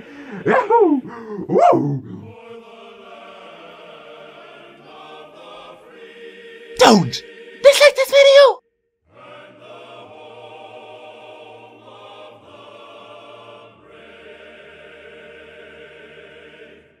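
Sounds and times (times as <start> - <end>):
quiet choral music: 0.0 - 8.4, 9.0 - 17.0.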